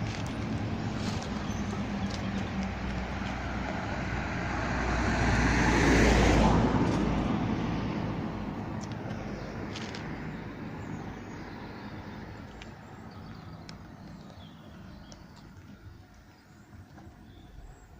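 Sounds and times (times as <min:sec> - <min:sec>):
vehicle passing by: 0:00.0 - 0:15.9.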